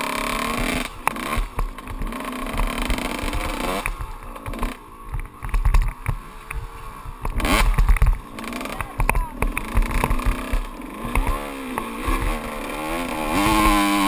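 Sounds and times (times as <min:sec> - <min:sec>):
motorbike engine revving: 0:00.0 - 0:14.0
low thuds from bumps: 0:00.5 - 0:14.0.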